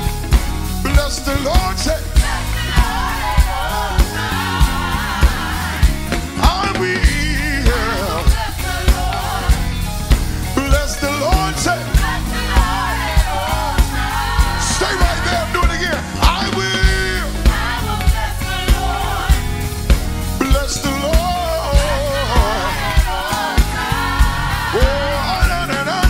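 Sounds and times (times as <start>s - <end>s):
bass: 0.0s - 26.0s
drum beat: 0.0s - 26.0s
lead and backing singers: 0.0s - 26.0s.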